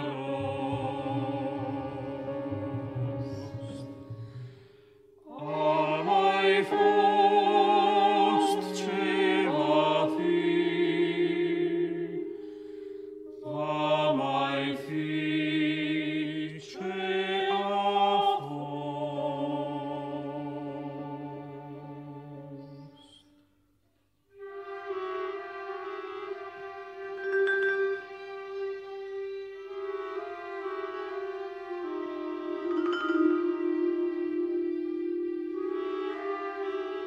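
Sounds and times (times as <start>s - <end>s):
vocal ensemble singing chords: 0.0s - 23.2s, 29.6s - 37.0s.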